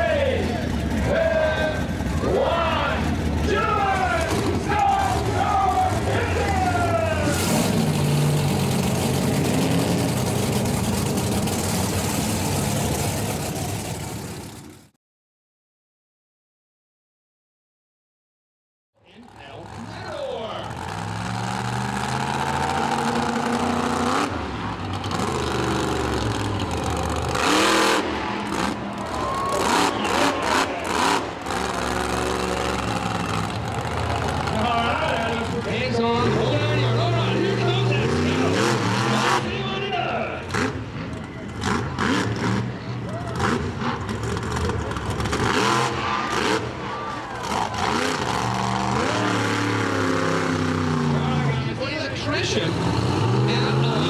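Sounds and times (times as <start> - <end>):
monster truck engine revving: 0.0 - 14.9, 19.2 - 54.0.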